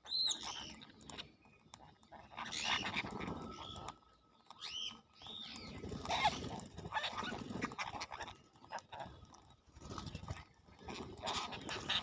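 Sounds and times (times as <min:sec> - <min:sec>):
parrot calling and chattering: 0:00.0 - 0:09.4, 0:10.8 - 0:12.0.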